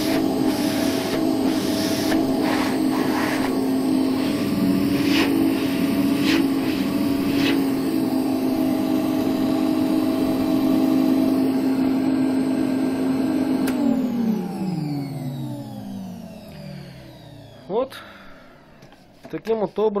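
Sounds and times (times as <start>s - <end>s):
vacuum cleaner running: 0.0s - 19.2s.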